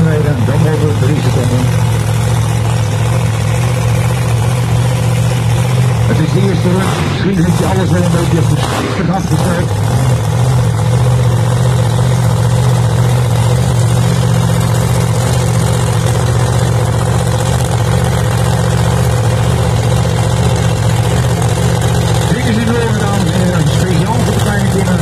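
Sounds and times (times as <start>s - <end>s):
loud engine idling: 0.0s - 25.0s.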